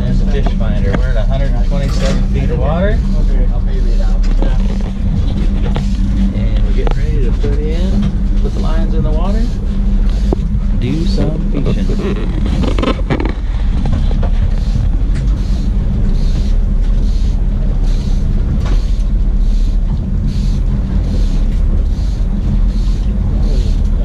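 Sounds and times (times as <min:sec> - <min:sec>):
boat engine droning: 0:00.0 - 0:24.0
water along hull: 0:00.0 - 0:24.0
wind on microphone: 0:00.0 - 0:24.0.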